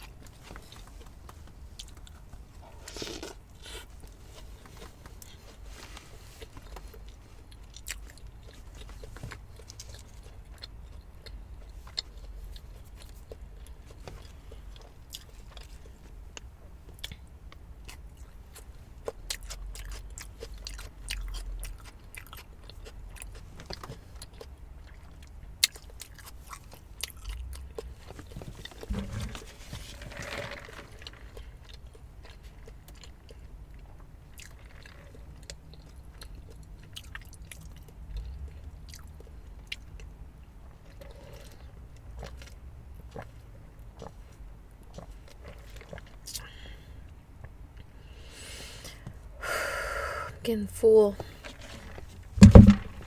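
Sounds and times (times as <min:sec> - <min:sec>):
person chewing crunchy food: 0:00.0 - 0:29.0, 0:31.0 - 0:40.1, 0:40.7 - 0:46.5.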